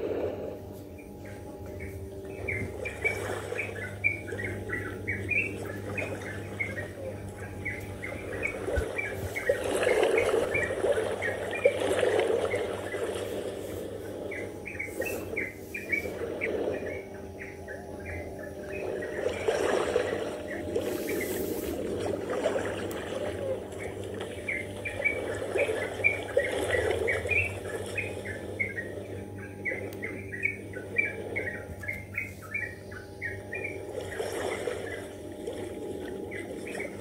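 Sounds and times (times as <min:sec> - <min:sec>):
small birds chirping: 0:00.6 - 0:37.0.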